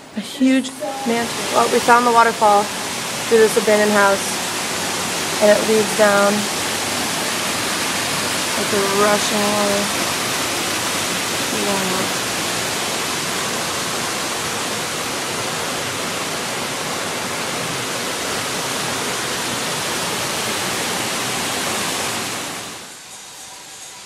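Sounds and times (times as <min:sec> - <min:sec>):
waterfall rushing: 0:00.0 - 0:23.8.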